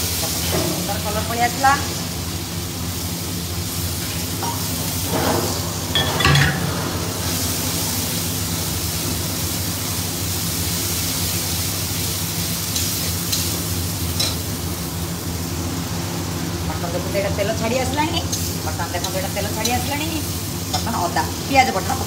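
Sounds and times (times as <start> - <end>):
paste frying in hot oil: 0.0 - 22.0.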